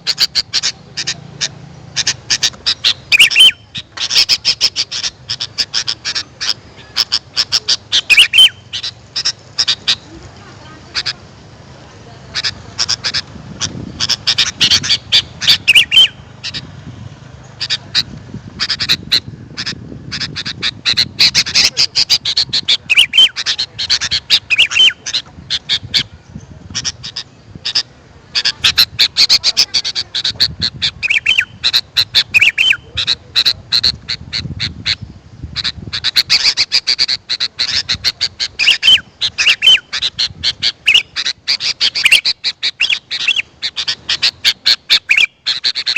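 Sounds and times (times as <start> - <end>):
bulbuls chattering and whistling: 0.0 - 45.9.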